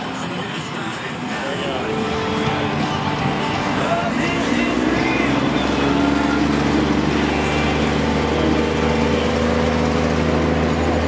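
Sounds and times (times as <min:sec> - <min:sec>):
truck engines under load: 0:00.0 - 0:11.0.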